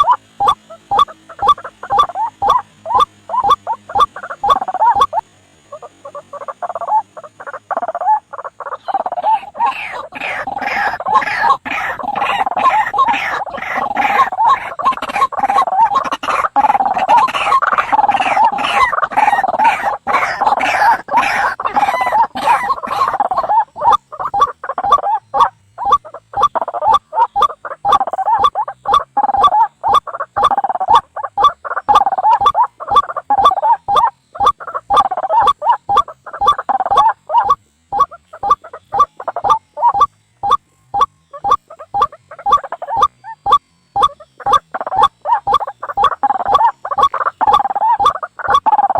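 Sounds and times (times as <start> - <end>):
waterhen calls: 0.0 - 48.9.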